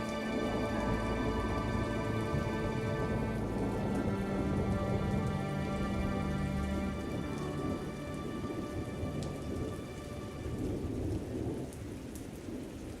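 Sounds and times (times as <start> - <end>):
held music notes: 0.0 - 11.6
steady rain: 0.0 - 13.0
thunder rumble: 0.0 - 13.0.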